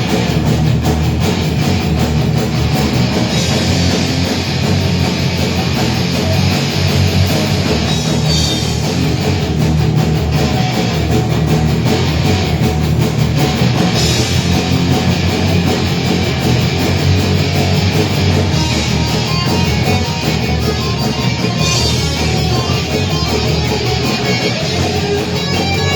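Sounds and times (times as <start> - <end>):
rock band playing: 0.0 - 25.9.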